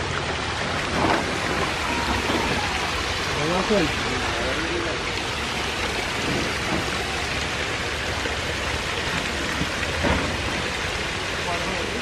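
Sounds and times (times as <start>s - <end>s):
fish churning water surface: 0.0s - 12.0s
water spraying into tank: 0.0s - 12.0s.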